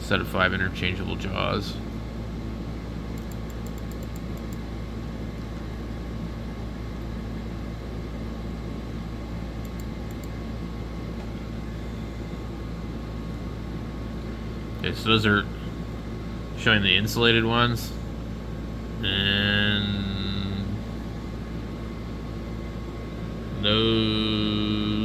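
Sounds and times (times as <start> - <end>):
mechanical room hum and hiss: 0.0 - 25.0.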